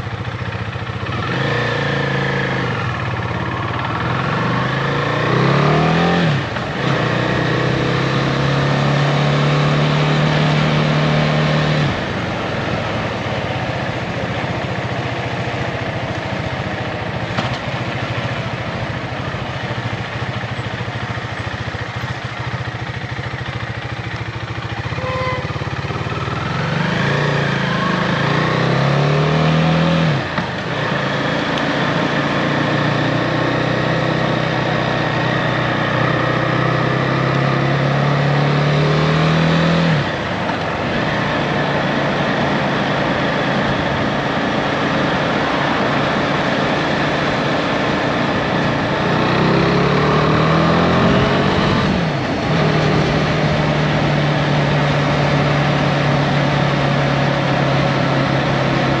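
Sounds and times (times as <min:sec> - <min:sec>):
motorcycle engine shifting gears: 0:00.0 - 0:59.0
wind and road noise: 0:00.0 - 0:59.0.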